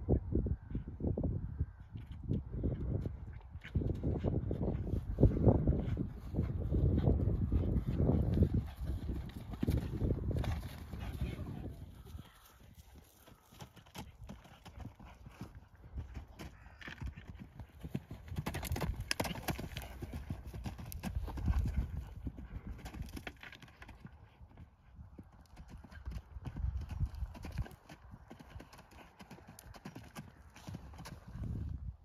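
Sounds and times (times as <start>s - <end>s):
horse hoofbeats on grass: 2.8s - 31.6s.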